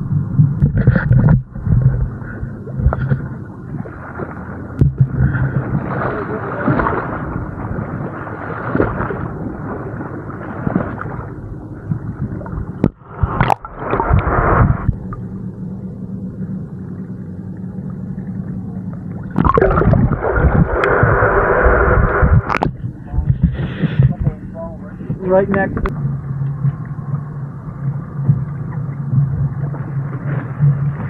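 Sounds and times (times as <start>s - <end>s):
muffled underwater gurgling: 0.0s - 31.0s
water sloshing and splashing: 0.2s - 15.6s, 16.8s - 31.0s.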